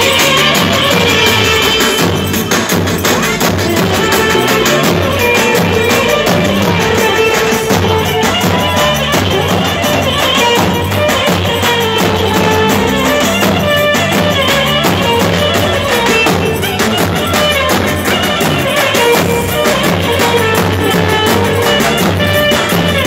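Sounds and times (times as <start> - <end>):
band playing dance music: 0.0 - 23.0
steady drum beat: 0.0 - 23.0
wavering melody line: 0.0 - 23.0.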